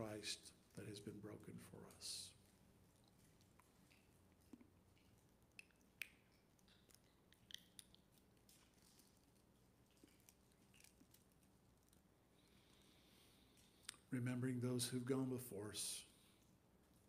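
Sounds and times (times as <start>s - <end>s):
small handling noises: 0.0s - 14.2s.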